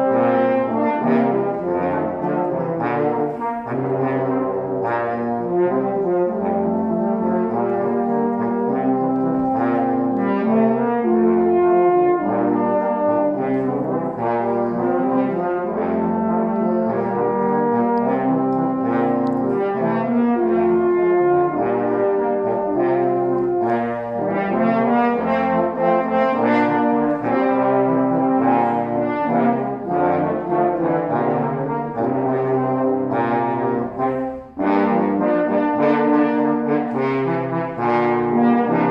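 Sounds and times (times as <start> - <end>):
french horn ensemble playing: 0.0 - 38.9.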